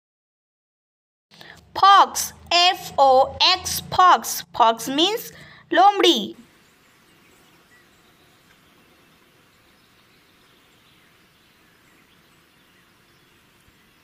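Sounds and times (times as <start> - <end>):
faint outdoor hiss: 1.4 - 14.0.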